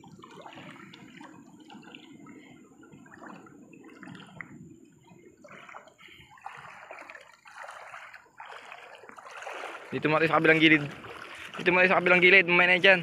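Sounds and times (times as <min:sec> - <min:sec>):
river water trickling: 0:00.0 - 0:13.0
water splashing: 0:00.0 - 0:13.0.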